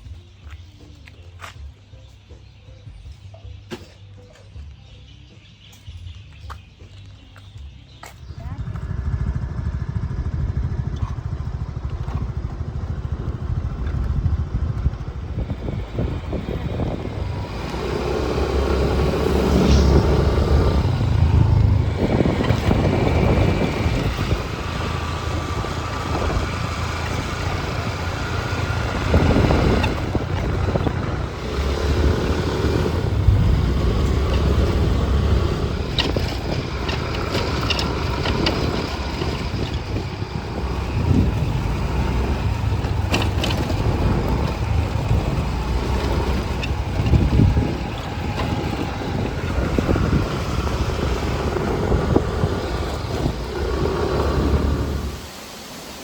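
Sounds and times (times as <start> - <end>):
motor scooter running: 7.0 - 55.4
wind rumbling on microphone: 7.8 - 55.5.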